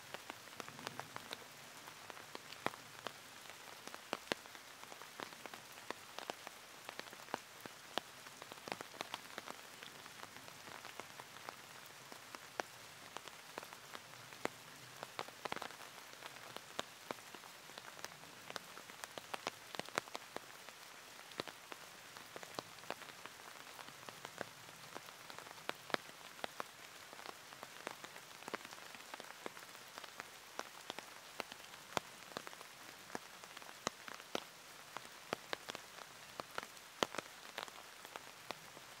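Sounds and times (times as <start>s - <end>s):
heavy rain falling: 0.0s - 39.0s
raindrops tapping close by: 0.0s - 39.0s.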